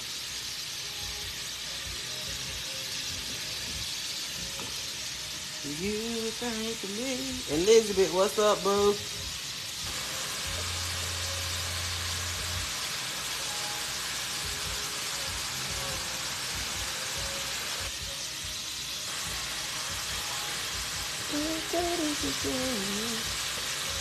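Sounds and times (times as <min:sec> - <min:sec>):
shrimp sizzling in a skillet: 0:00.0 - 0:24.0.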